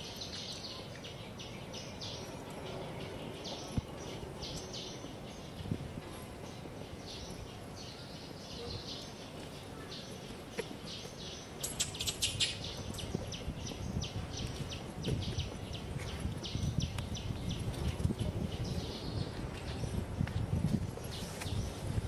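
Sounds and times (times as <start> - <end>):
birds chirping: 0.0 - 20.2.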